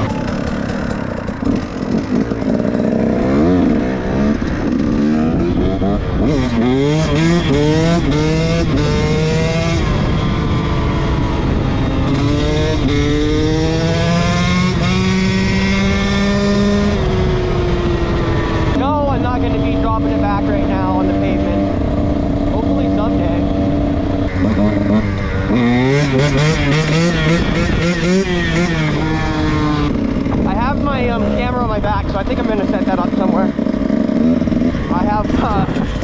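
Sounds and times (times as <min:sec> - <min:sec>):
dirt bike engine accelerating: 0:00.0 - 0:36.0.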